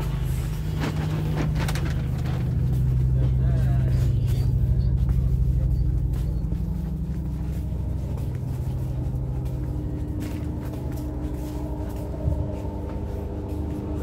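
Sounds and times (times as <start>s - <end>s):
train carriage rumble and hum: 0.0s - 14.0s
steady tone: 2.2s - 14.0s.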